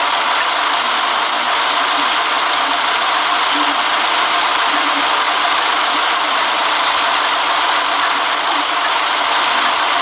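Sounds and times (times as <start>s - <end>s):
bus engine and road noise: 0.0s - 10.0s.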